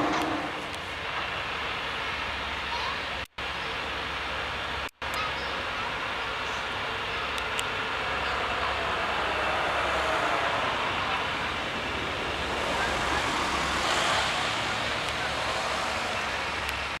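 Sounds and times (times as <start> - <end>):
city road traffic roar: 0.0 - 17.0.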